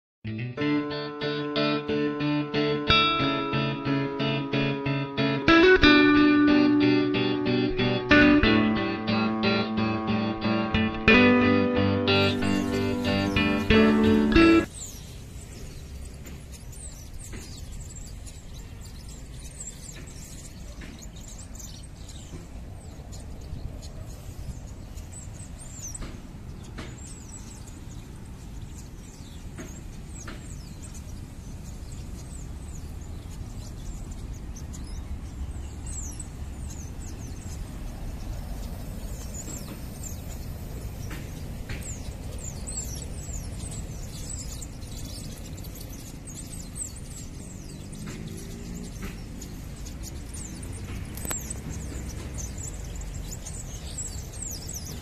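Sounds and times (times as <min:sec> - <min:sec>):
small birds chirping: 0:01.1 - 0:55.0.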